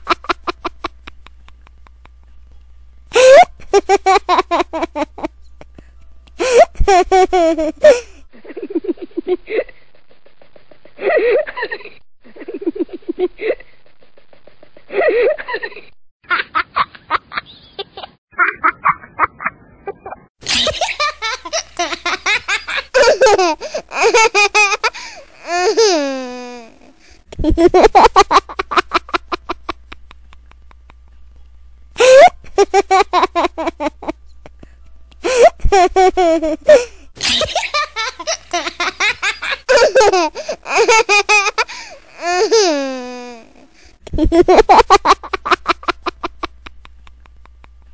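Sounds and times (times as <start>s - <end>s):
small child laughing: 0.0s - 2.2s, 3.1s - 5.8s, 6.4s - 31.0s, 32.0s - 34.6s, 35.2s - 47.9s.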